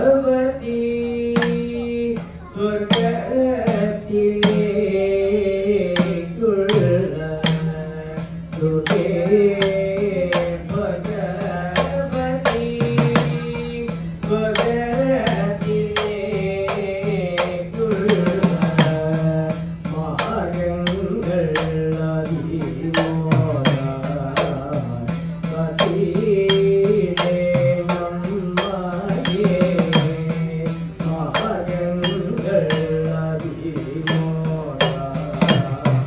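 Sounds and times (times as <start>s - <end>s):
hourglass drum strokes: 0.0s - 36.0s.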